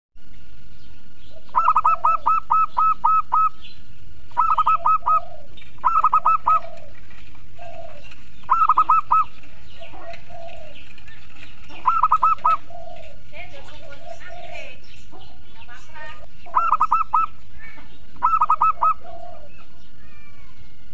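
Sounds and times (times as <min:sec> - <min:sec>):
dove cooing song: 0:00.6 - 0:20.9.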